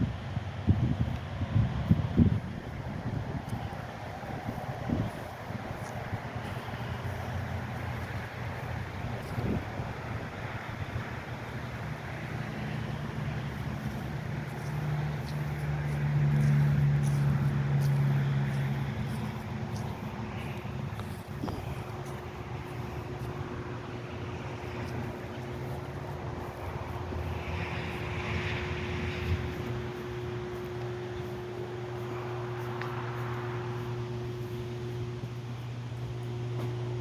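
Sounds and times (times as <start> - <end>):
engine hum: 0.0 - 37.0.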